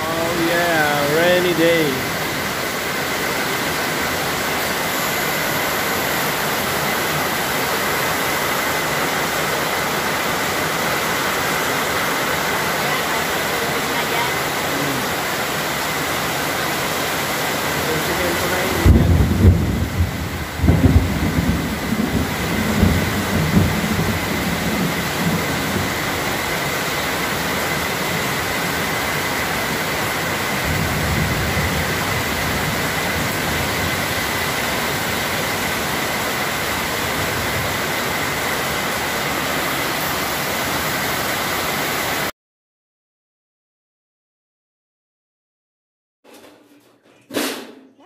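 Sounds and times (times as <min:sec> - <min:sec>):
heavy rain on metal roof: 0:00.0 - 0:42.3.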